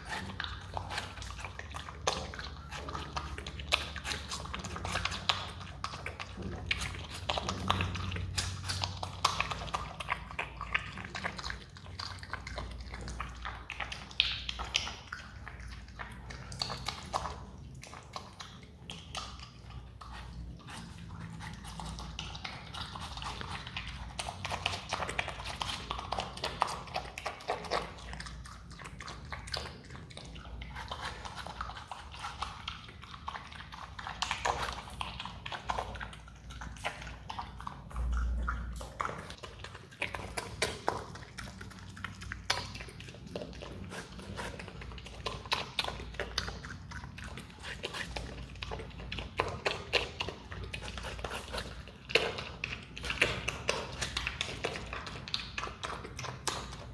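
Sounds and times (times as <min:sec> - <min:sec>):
animal chewing watermelon: 0:00.0 - 0:56.9.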